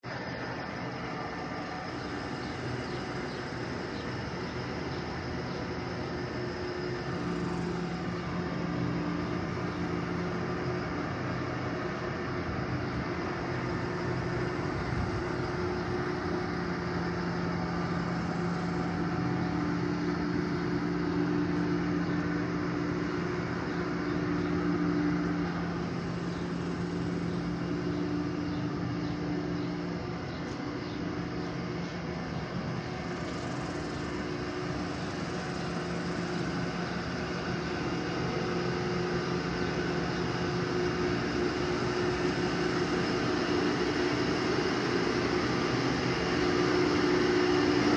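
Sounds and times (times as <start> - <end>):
car engine humming: 0.3 - 47.9.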